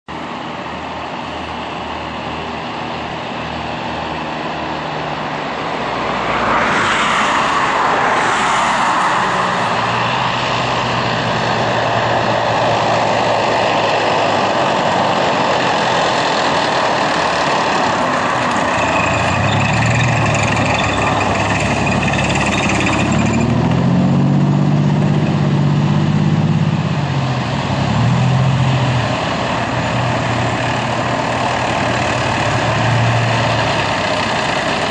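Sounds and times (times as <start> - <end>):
heavy engine passing close: 0.1 - 34.9
military vehicles diesel engines: 0.1 - 34.9.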